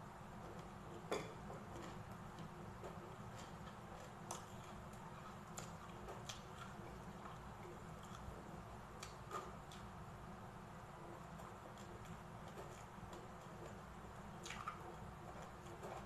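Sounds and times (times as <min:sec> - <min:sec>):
person chewing crispy food: 0:00.5 - 0:10.0, 0:11.1 - 0:16.0.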